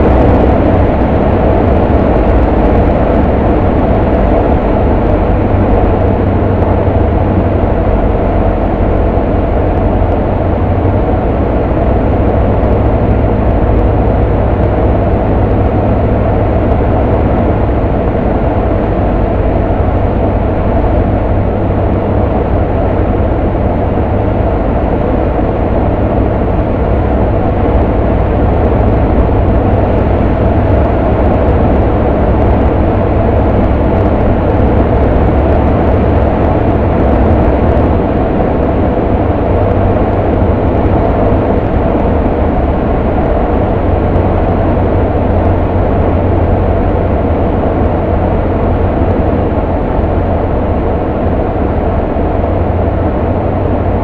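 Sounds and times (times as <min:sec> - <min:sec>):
small plane engine and propeller drone: 0:00.0 - 0:54.0.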